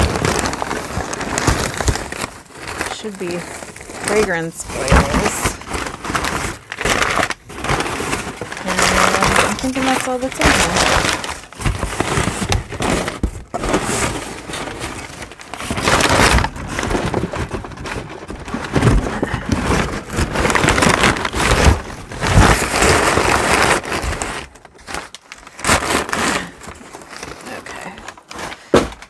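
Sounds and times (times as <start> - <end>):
packing paper crinkling: 0.0 - 29.0.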